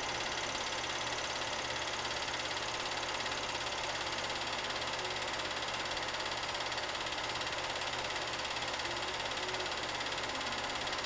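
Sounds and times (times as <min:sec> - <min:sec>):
film projector whirring: 0:00.0 - 0:11.0.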